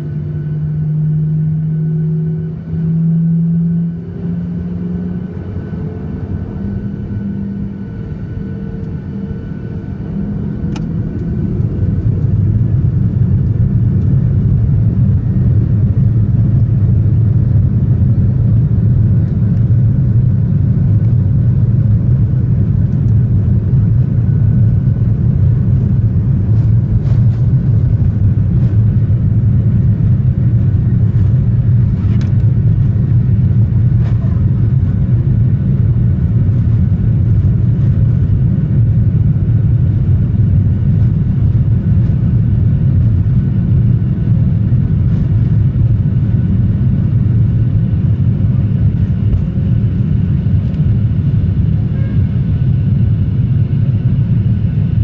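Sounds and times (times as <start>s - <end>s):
jet engine low rumble: 0.0s - 55.0s
airframe rolling on taxiway: 1.8s - 55.0s.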